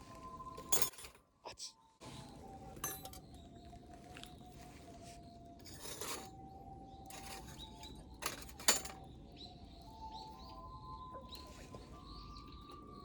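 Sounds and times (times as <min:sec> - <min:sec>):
soft recorder music: 0:00.0 - 0:00.9, 0:01.5 - 0:13.0.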